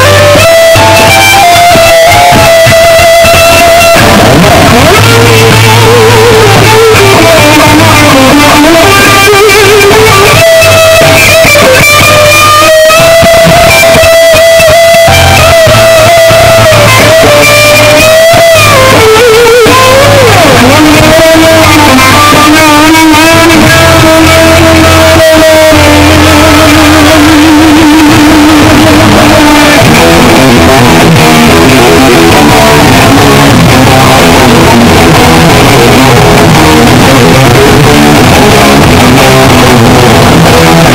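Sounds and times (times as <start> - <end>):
distorted electric guitar lead: 0.0 - 40.9.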